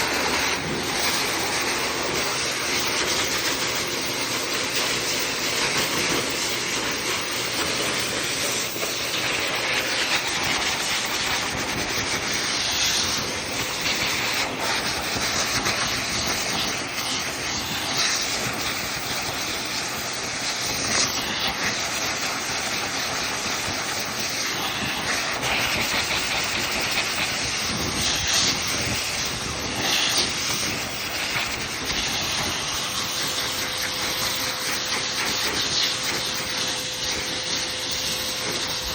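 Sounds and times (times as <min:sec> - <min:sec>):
blow dryer hissing: 0:00.0 - 0:38.9.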